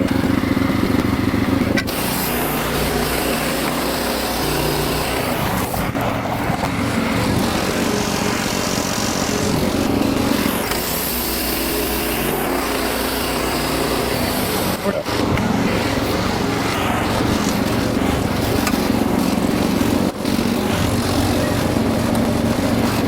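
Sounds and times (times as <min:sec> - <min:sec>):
band sawmill running: 0:00.0 - 0:23.0.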